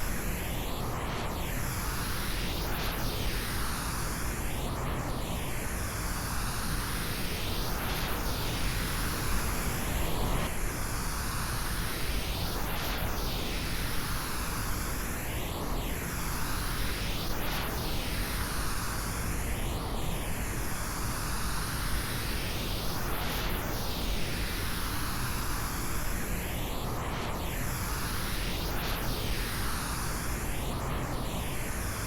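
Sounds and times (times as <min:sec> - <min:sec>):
circling pink noise hiss: 0:00.0 - 0:32.0.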